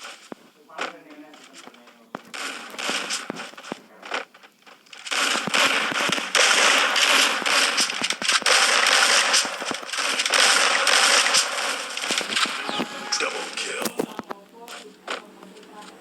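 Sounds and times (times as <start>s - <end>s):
crackling with sharp pops: 0.0s - 16.0s
scattered clicks: 0.0s - 16.0s.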